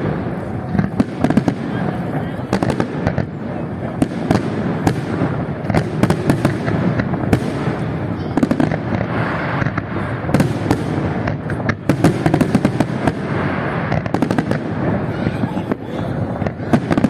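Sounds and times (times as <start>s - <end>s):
firework crackling pops: 0.0s - 17.0s.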